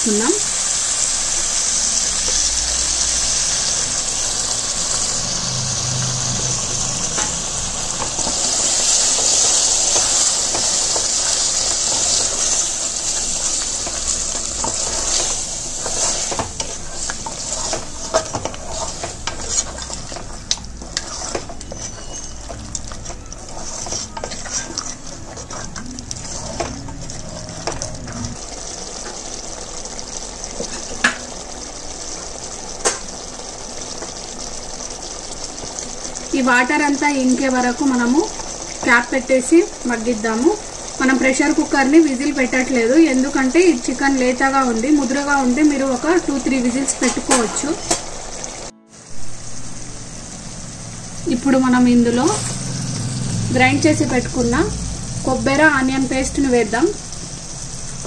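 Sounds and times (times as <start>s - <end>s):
chicken sizzling in a pot: 0.0s - 58.0s.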